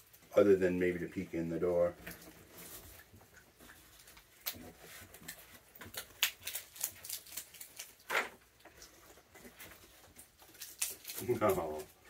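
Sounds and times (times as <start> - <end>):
raccoons crunching treats: 1.9 - 12.0.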